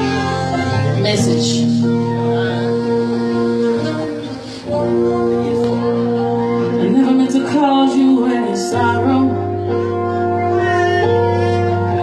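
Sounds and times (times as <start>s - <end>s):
live band playing held chords: 0.0s - 12.0s
woman singing into microphone: 0.0s - 12.0s.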